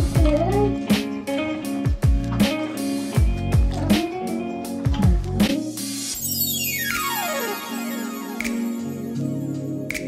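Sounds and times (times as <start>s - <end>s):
held music chords: 0.0s - 10.0s.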